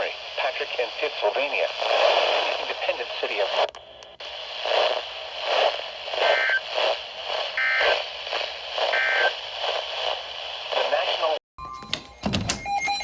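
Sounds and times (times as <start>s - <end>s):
hissing crackling static: 0.0s - 11.4s
radio broadcast: 0.0s - 11.4s.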